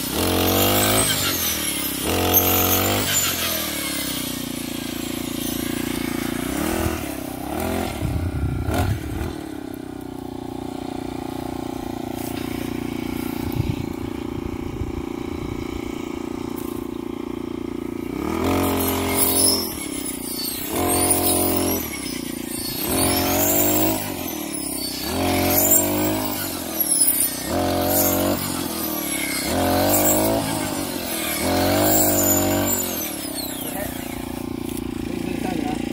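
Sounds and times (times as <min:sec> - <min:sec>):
brush cutter engine revving: 0:00.0 - 0:35.9.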